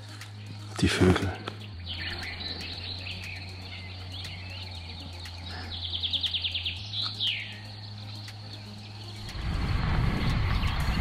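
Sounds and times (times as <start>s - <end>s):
bird trill: 0.0s - 9.4s
songbirds chirping: 0.0s - 11.0s.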